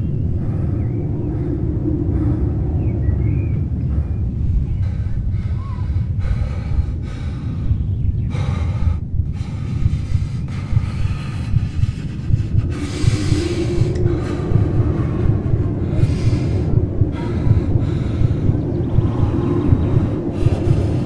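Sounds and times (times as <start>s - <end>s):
deep rumble: 0.0s - 21.0s
man breathing heavily: 0.0s - 21.0s.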